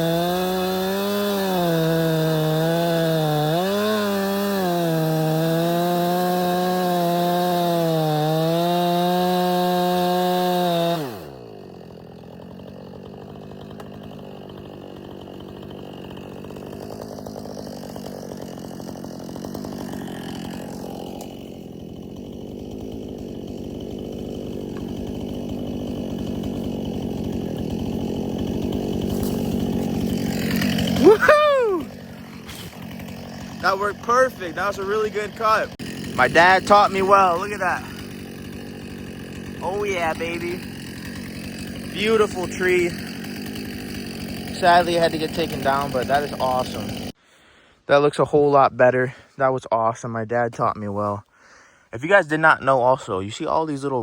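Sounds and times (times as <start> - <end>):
chainsaw cutting tree trunk: 0.0 - 47.2.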